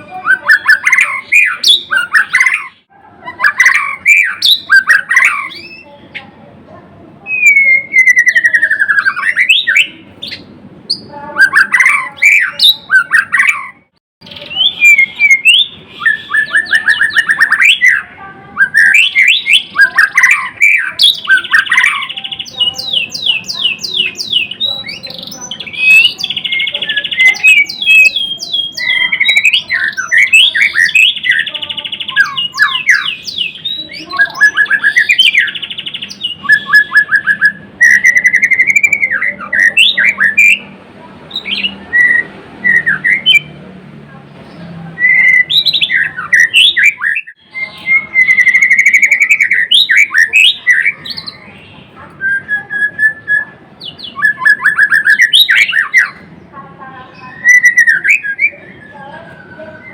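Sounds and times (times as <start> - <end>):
bird singing whistles and trills: 0.0 - 6.2, 7.2 - 40.7, 41.3 - 43.6, 45.0 - 56.3, 57.1 - 59.9.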